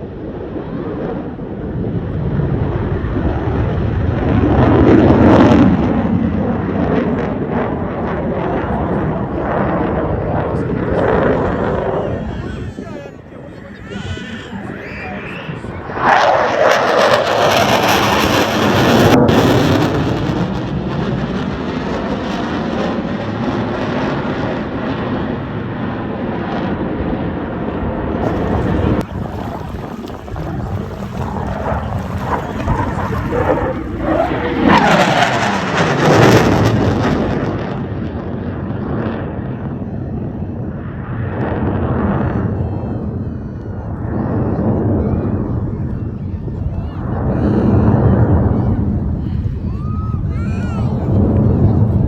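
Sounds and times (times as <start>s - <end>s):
jet engines roaring past: 0.0s - 52.0s.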